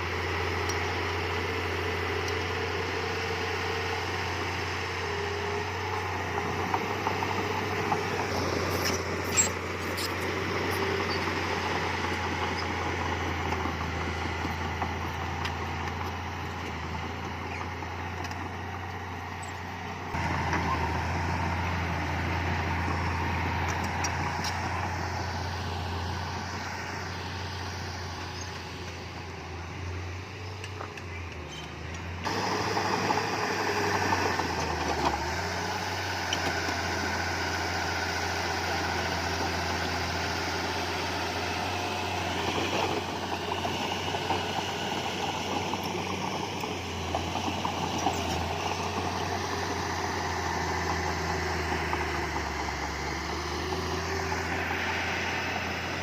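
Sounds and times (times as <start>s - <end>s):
diesel earthmoving machinery running: 0.0s - 56.0s.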